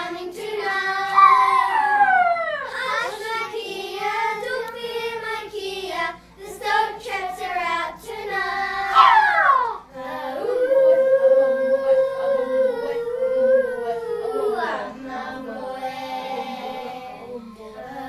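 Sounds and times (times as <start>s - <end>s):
children singing together: 0.0s - 18.0s.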